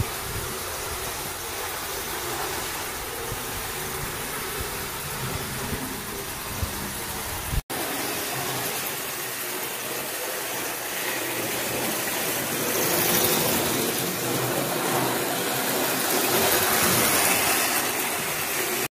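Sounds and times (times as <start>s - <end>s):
model train running on track: 0.0s - 18.9s.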